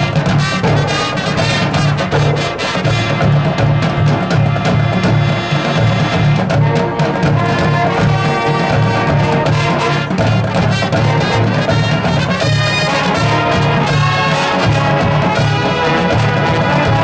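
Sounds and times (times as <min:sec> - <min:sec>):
brass section playing: 0:00.0 - 0:17.0
low drum beat: 0:00.0 - 0:17.0.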